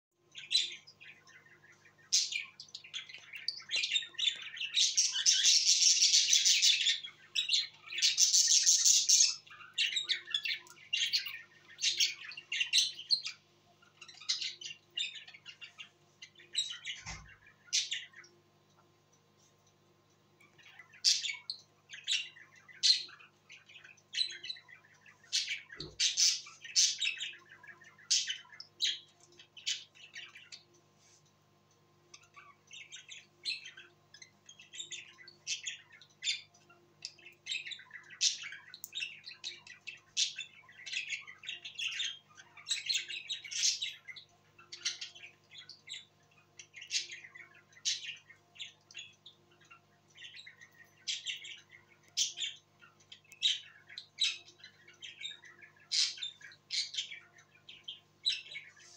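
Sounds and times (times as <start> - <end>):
budgerigars chirping and squawking: 0.2 - 18.3, 20.4 - 31.2, 32.1 - 58.9.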